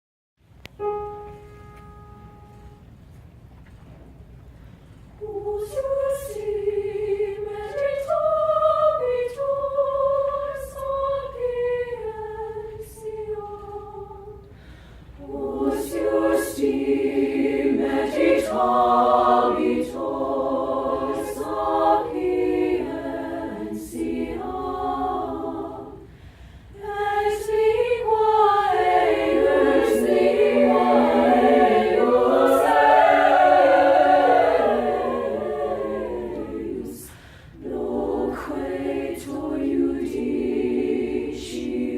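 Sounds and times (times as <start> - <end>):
choir singing a cappella: 5.2 - 41.9.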